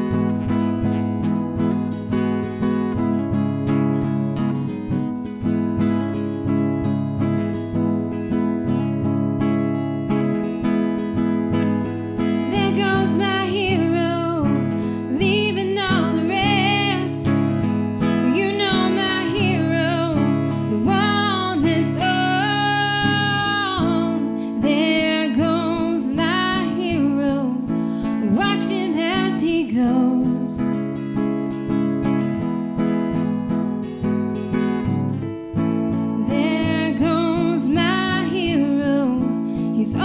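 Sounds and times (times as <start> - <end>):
strummed acoustic guitar: 0.0 - 40.0.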